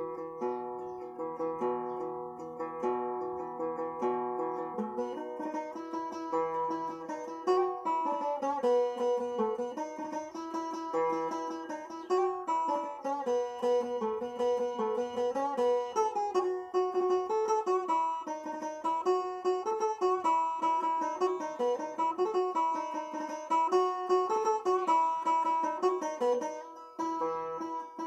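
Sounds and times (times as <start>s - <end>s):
plucked string instrument melody: 0.0s - 28.0s.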